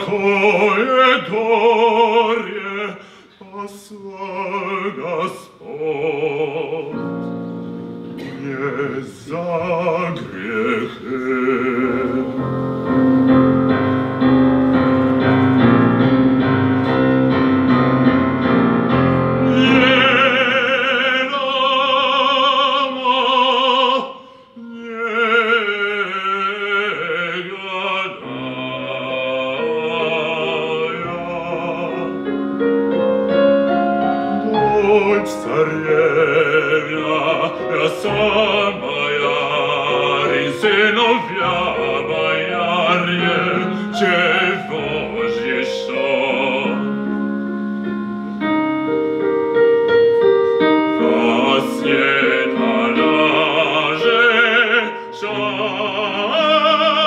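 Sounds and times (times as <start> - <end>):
man singing opera: 0.0 - 14.2, 18.4 - 48.1, 50.6 - 57.0
piano accompaniment: 0.0 - 57.0.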